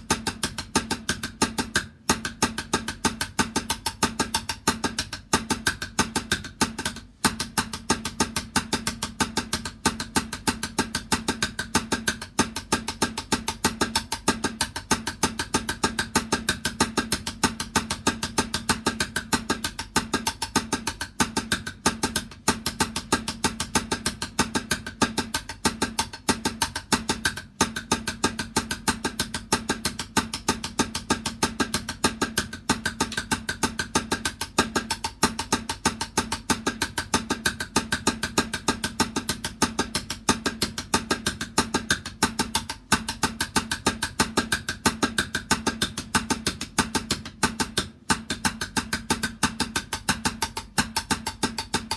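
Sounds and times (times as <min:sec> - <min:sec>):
fast drumming: 0:00.0 - 0:51.9.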